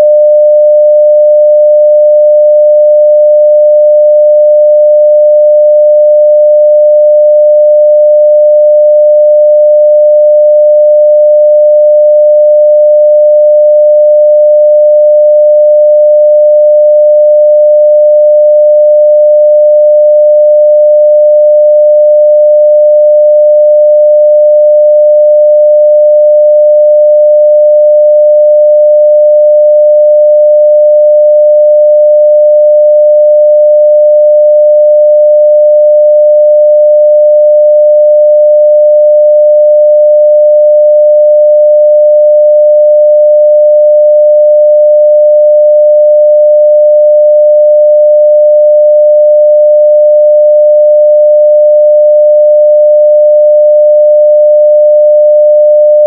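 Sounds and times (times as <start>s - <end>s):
sine-wave test tone: 0.0s - 56.0s.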